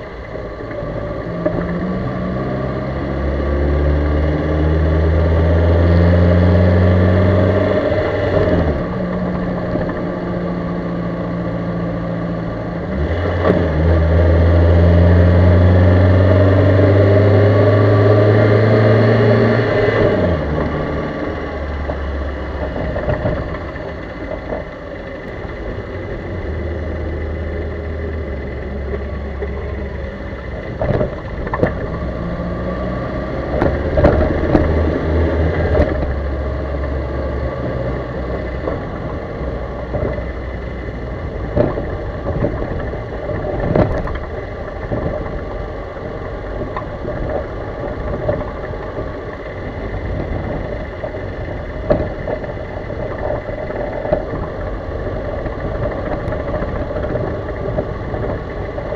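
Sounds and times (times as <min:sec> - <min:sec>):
car engine and road hum: 0:00.0 - 0:58.9.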